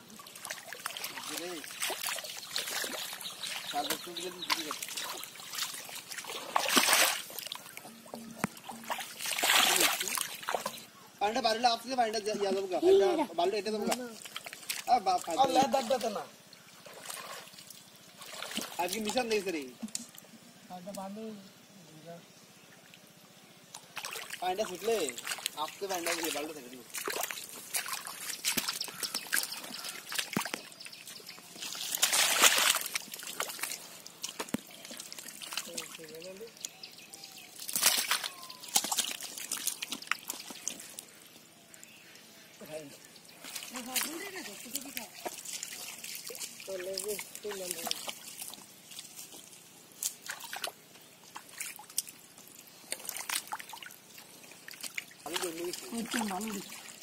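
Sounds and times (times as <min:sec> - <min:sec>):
muddy water splashing and dripping: 0:00.0 - 0:21.1, 0:22.6 - 0:57.0.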